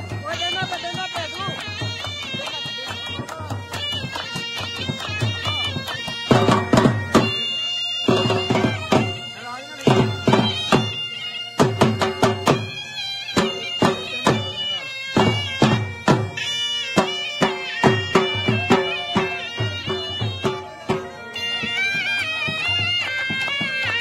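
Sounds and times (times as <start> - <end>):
dhol drum strokes: 0.0 - 24.0.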